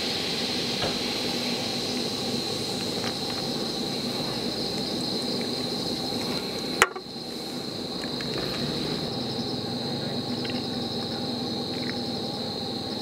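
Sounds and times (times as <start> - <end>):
insects trilling: 0.0 - 13.0
low steady hum: 0.0 - 13.0.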